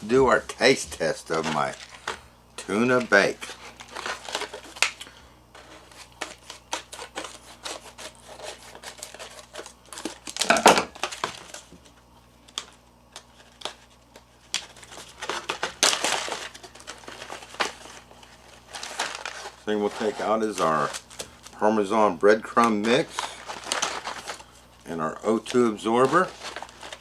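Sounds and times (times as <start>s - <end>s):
plastic bags crackling: 0.0s - 7.7s, 8.4s - 11.7s, 14.4s - 27.0s
plastic pouch crinkling: 0.0s - 11.7s, 12.5s - 27.0s.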